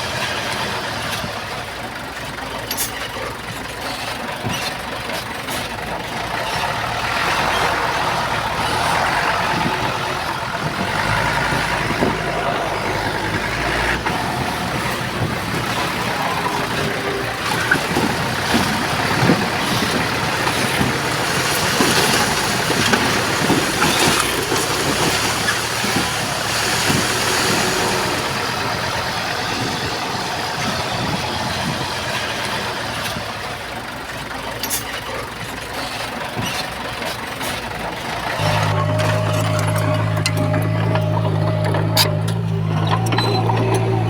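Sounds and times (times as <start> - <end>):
clanks and rattles: 0.0 - 44.0
diesel machinery engine drone: 0.0 - 44.0.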